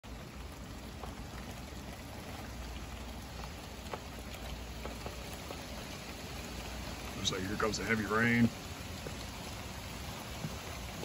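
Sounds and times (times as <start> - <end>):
low steady rumble: 0.0 - 11.0
rain hissing: 0.0 - 11.0
raindrops ticking on surfaces: 0.0 - 11.0.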